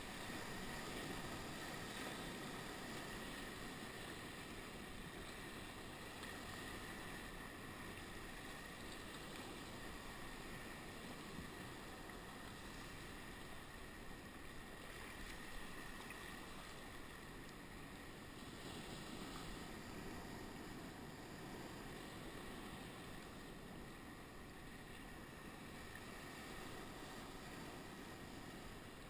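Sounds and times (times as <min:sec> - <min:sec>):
choppy sea water: 0:00.0 - 0:29.0.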